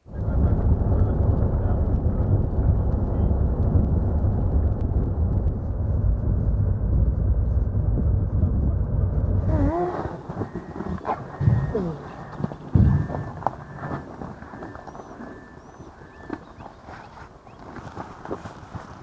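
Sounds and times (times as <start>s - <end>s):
truck driving rumble: 0.0s - 19.0s
wind buffeting microphone: 0.0s - 19.0s.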